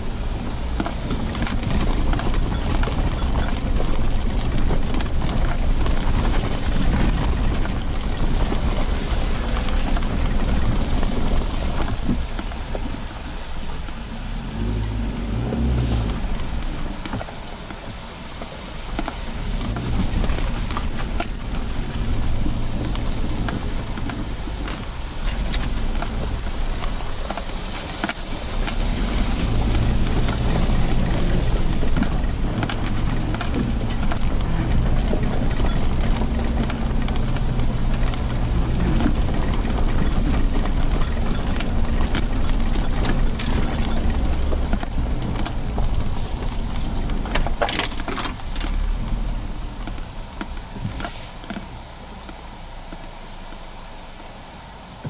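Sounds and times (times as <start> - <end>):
car engine running: 0.0 - 51.0
tyres crackling over gravel: 0.0 - 51.7.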